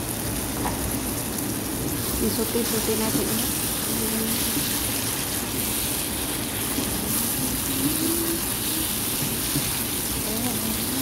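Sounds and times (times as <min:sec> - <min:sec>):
beef and mushrooms sizzling in pan: 0:00.0 - 0:11.0.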